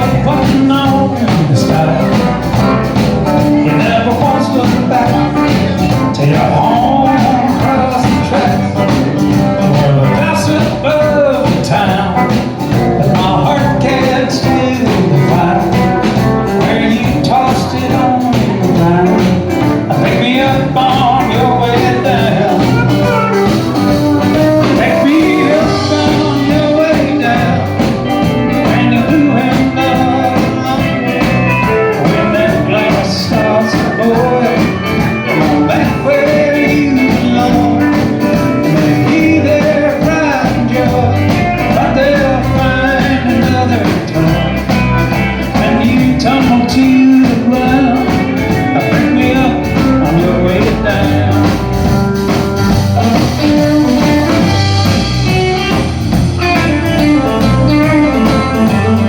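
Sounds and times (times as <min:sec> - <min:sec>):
bass guitar: 0:00.0 - 0:59.0
guitars: 0:00.0 - 0:59.0
steady drum beat: 0:00.0 - 0:59.0.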